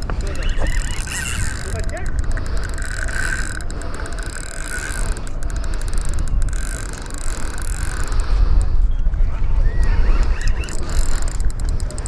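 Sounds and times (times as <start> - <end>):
fishing reel gears running: 0.0 - 8.8, 10.2 - 12.0
low wind rumble on microphone: 0.0 - 12.0.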